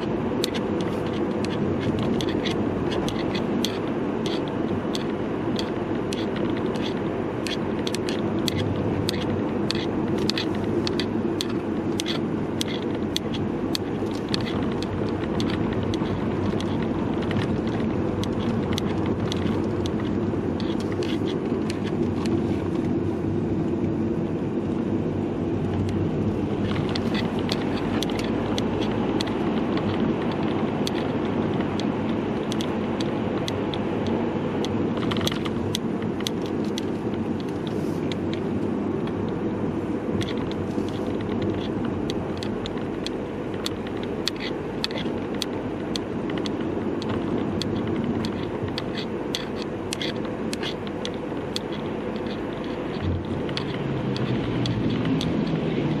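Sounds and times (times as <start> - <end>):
car road and engine noise: 0.0 - 56.0
camera strap clicking and rattling: 0.4 - 22.4, 26.6 - 39.4, 40.1 - 55.7.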